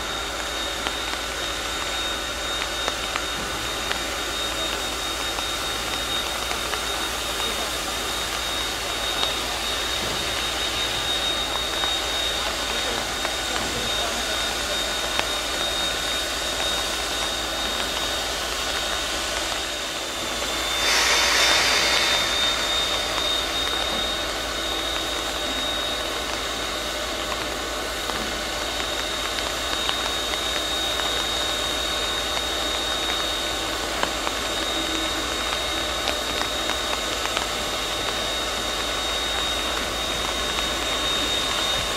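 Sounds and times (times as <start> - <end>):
rush of escaping steam: 0.0 - 41.9
steam locomotive hissing: 0.0 - 41.9
thin high whine: 0.0 - 41.9.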